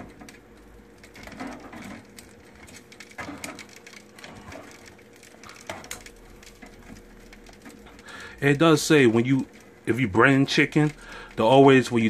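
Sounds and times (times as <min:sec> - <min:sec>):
food clicking on metal basket: 0:00.0 - 0:12.0
low appliance hum: 0:00.0 - 0:12.0.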